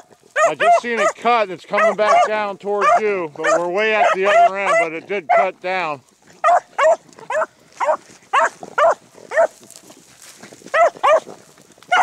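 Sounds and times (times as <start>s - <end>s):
hounds baying: 0.0s - 5.6s, 6.2s - 12.0s.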